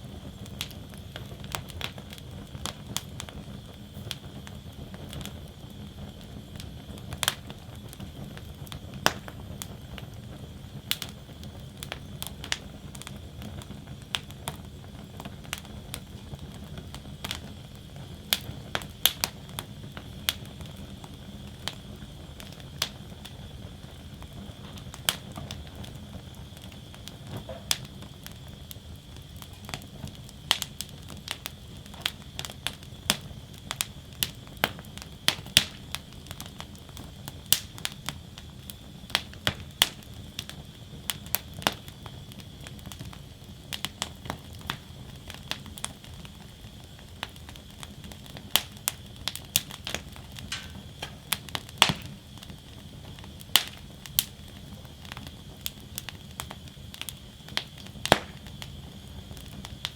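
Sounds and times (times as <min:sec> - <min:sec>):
burning wood crackling: 0:00.0 - 0:59.9
low rumble of flames: 0:00.0 - 0:59.9.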